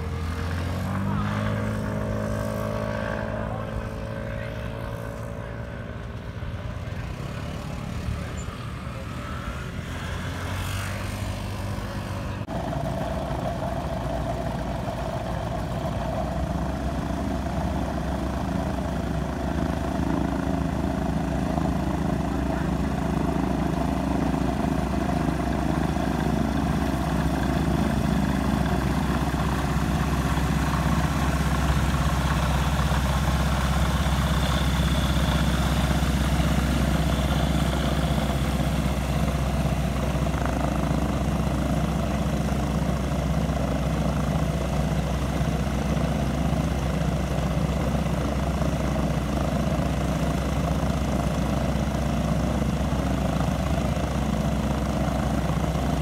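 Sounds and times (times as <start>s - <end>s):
microlight engine and propeller: 0.0s - 56.0s.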